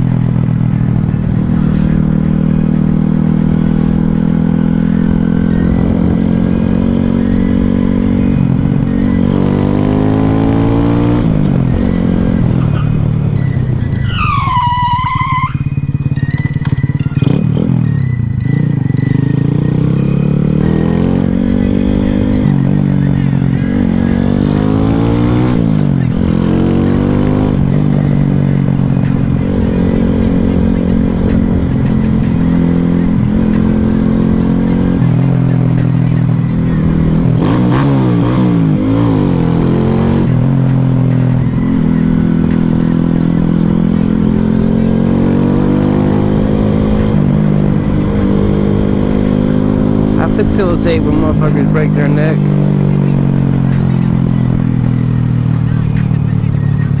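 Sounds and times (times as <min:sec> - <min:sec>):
minibike engine revving: 0:01.2 - 0:57.0.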